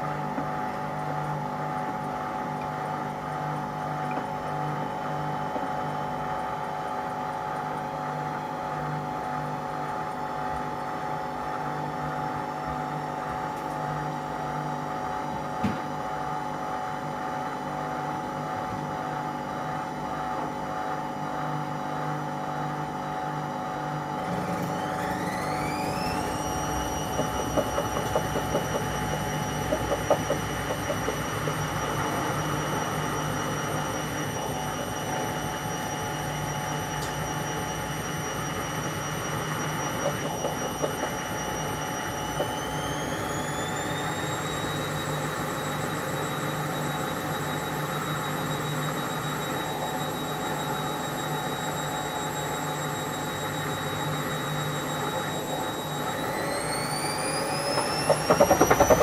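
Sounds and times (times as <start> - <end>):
washing machine motor whine: 0.0 - 59.0.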